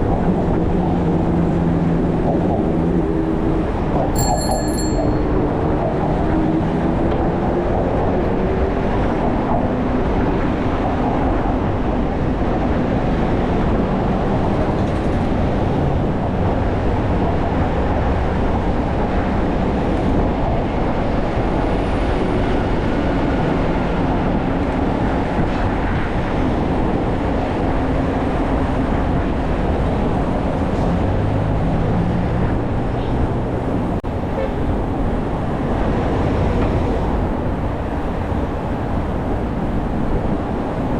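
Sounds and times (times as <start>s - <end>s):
city traffic: 0.0s - 40.9s
wind and road noise: 0.0s - 40.9s.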